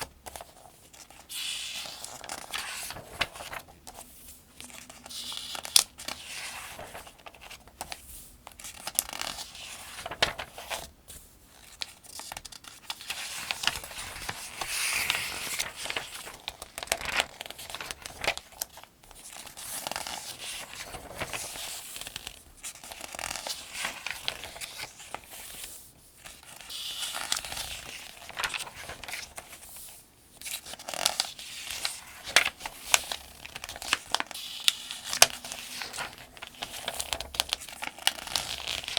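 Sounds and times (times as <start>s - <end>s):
paper pages turning: 0.0s - 10.9s, 11.6s - 25.7s, 26.3s - 29.8s, 30.4s - 38.9s.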